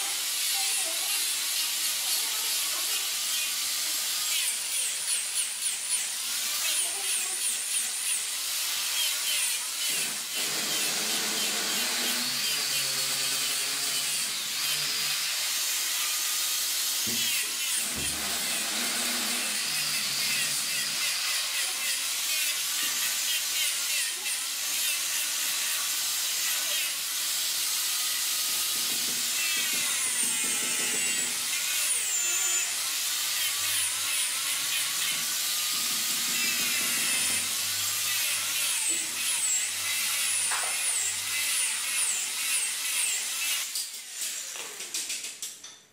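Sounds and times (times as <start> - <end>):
angle grinder grinding wood: 0.0 - 44.9.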